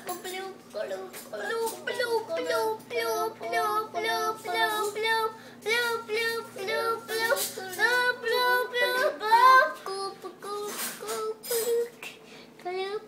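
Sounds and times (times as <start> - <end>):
girl singing in a high voice: 0.0 - 13.0.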